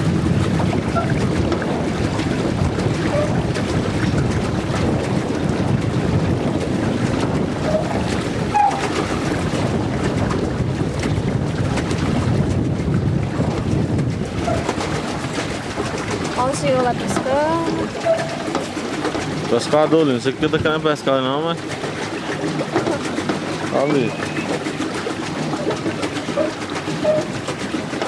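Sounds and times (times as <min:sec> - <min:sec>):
water washing past boat hull: 0:00.0 - 0:28.0
wind buffeting microphone: 0:00.0 - 0:28.0.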